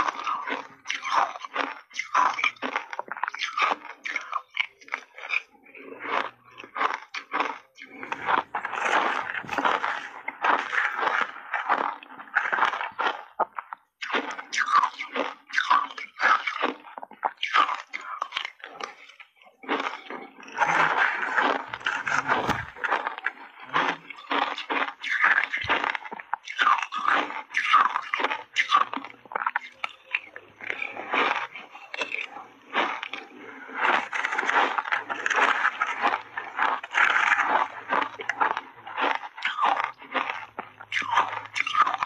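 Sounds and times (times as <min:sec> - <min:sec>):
crunching and chewing ice: 0:00.0 - 0:42.0.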